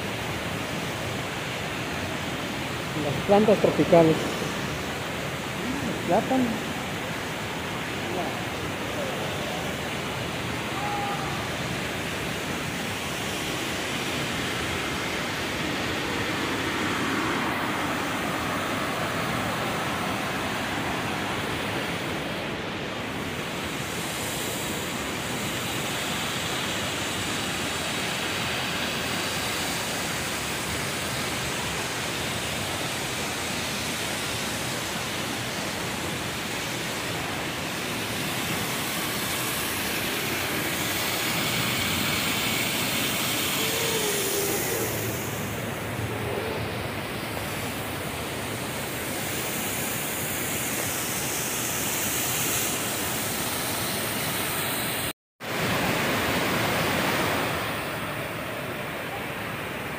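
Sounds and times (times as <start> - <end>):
waterfall and stream rushing: 0.0 - 59.9.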